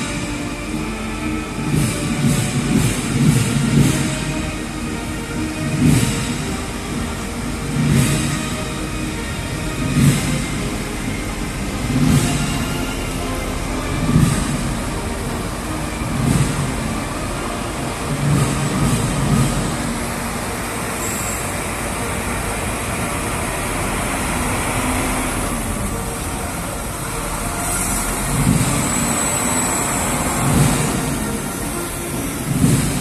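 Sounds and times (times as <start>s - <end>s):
heavy vehicles rumbling past: 0.0s - 33.0s.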